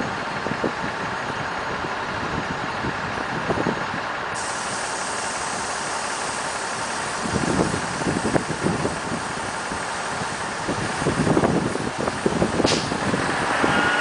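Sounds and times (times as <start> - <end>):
diesel engines idling: 0.0 - 14.0.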